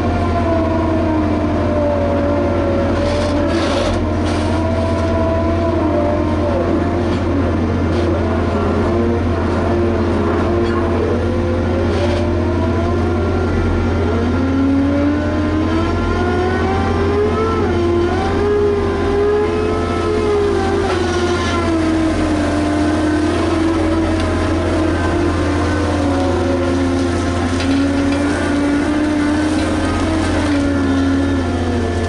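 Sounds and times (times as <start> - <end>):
diesel engine under load: 0.0 - 32.0
steady low drone: 0.0 - 32.0.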